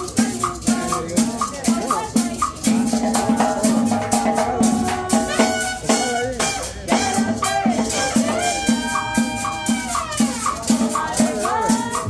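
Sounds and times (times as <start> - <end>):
drums: 0.0 - 12.0
held melody notes: 0.0 - 12.0
maracas shaking: 0.0 - 12.0
street band cumbia music: 0.0 - 12.0.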